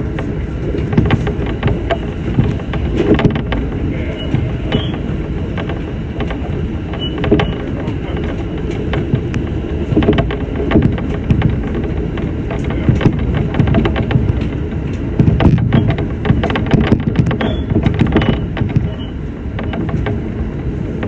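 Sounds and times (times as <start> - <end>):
clicks and knocks from rails: 0.0 - 21.0
train wheels rumbling: 0.0 - 21.0.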